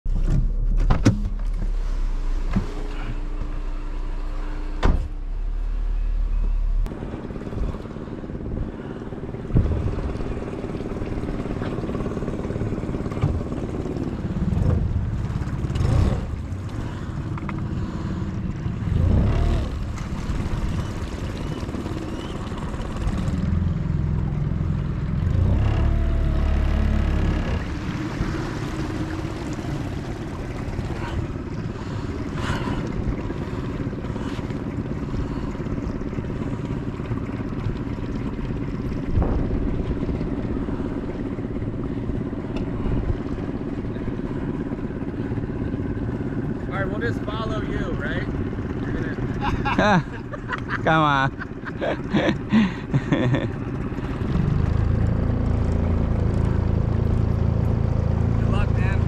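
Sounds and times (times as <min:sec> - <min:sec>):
road rumble: 0:00.1 - 0:59.0.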